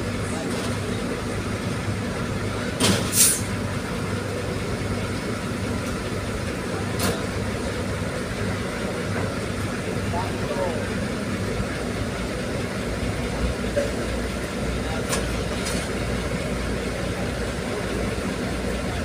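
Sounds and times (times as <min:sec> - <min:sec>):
diesel engine drone: 0:00.0 - 0:19.0.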